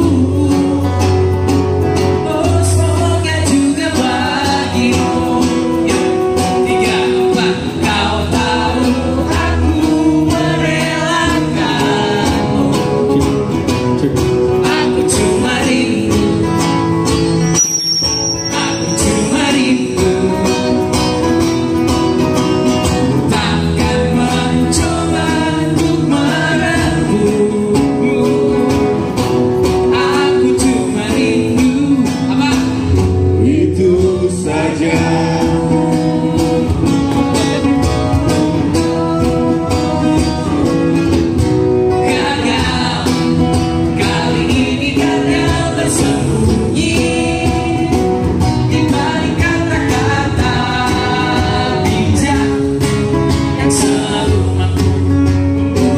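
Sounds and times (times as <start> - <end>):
acoustic guitars strumming: 0.0 - 55.9
cajon beat: 0.0 - 55.9
man singing: 0.0 - 55.9.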